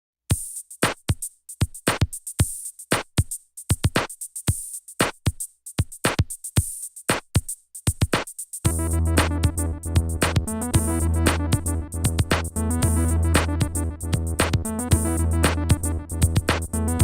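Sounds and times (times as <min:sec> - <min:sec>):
electronic drum machine beat: 0:00.3 - 0:17.0.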